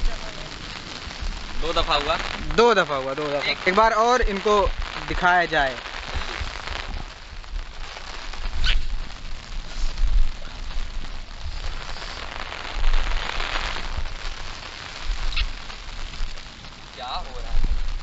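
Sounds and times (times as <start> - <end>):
steady rain-like hiss: 0.0 - 18.0
wind buffeting microphone: 0.0 - 18.0.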